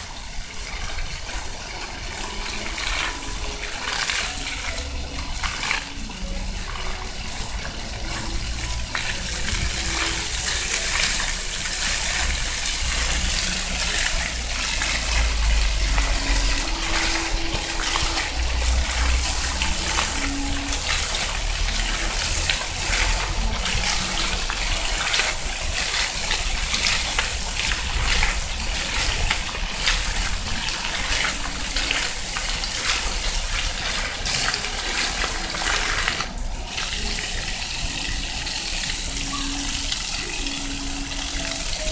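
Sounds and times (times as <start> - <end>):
fountain jets splashing on stone: 0.0 - 41.9.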